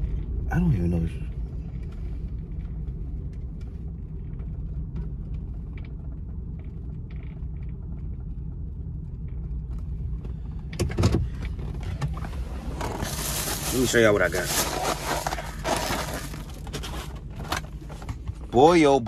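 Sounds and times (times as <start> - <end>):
car cabin low rumble: 0.0 - 19.0.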